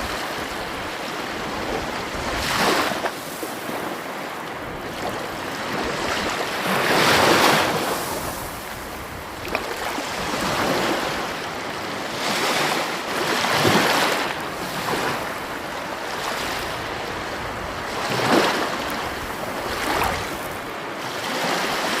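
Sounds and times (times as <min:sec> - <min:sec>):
sea waves breaking on shore: 0:00.0 - 0:22.0.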